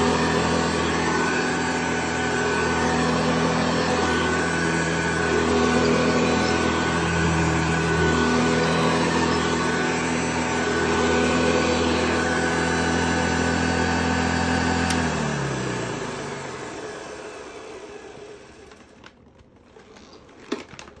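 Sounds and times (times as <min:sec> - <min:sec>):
motor winding down: 0:00.0 - 0:17.1
vacuum cleaner motor humming: 0:00.0 - 0:18.9.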